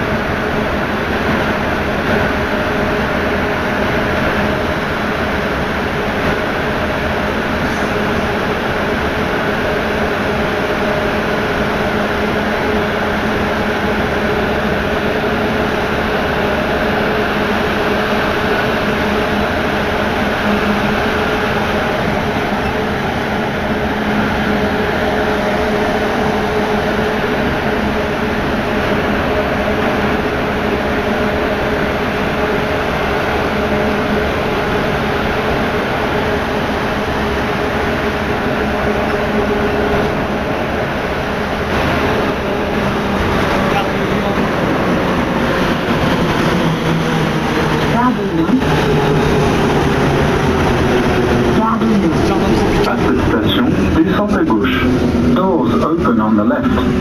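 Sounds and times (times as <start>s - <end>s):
train tyres rumbling: 0.0s - 57.0s.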